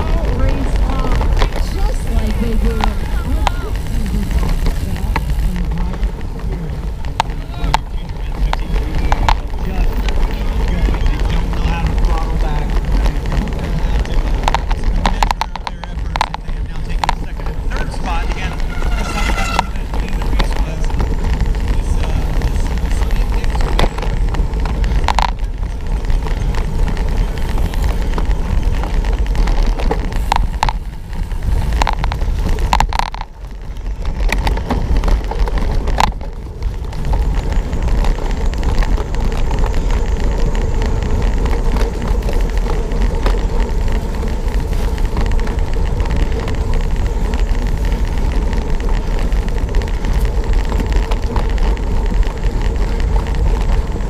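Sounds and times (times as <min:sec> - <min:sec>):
bike clicks and rattles: 0:00.0 - 0:54.0
wind rumbling on microphone: 0:00.0 - 0:54.0.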